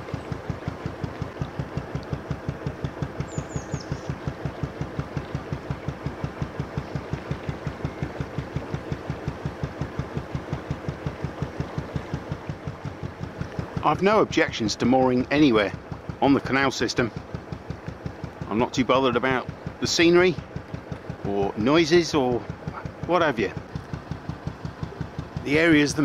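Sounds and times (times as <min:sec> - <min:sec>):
diesel engine thumping: 0:00.0 - 0:26.0.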